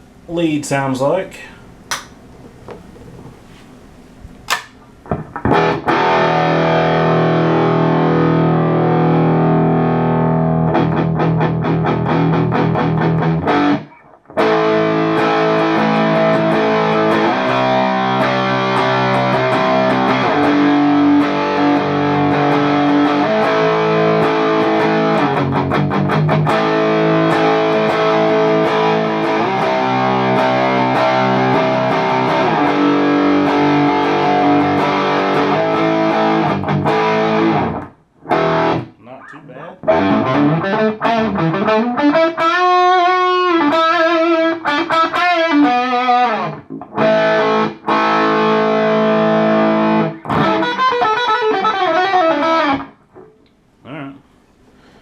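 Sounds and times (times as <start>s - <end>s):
distorted electric guitar: 4.5s - 54.0s.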